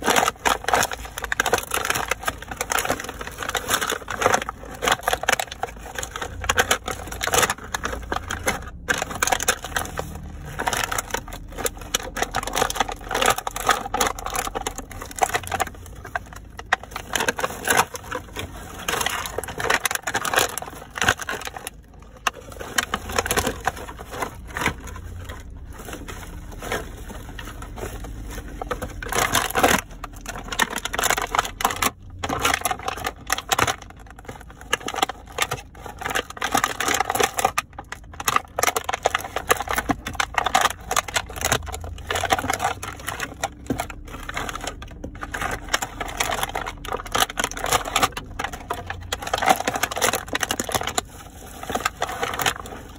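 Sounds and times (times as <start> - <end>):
packaging crunching underfoot: 0.0 - 52.9.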